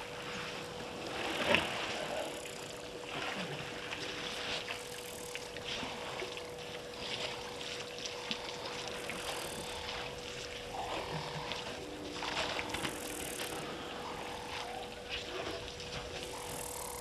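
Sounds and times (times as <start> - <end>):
steady hum: 0.0 - 17.0
water splashing and sloshing: 0.0 - 17.0.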